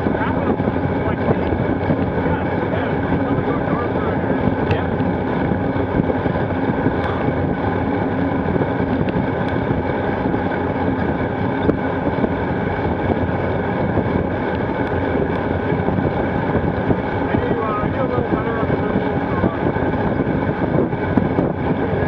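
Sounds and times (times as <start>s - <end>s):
wind rush: 0.0s - 22.0s.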